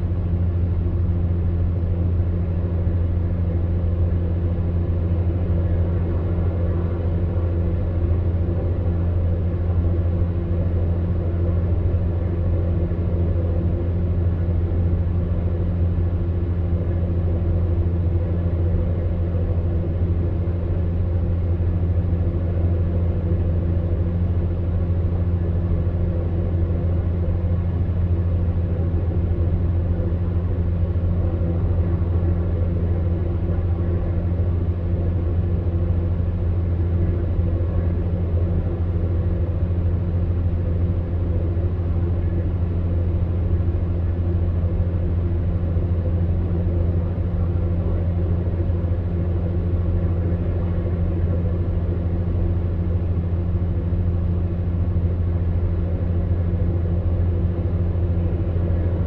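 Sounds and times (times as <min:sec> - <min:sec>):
fan heater humming: 0:00.0 - 0:59.0.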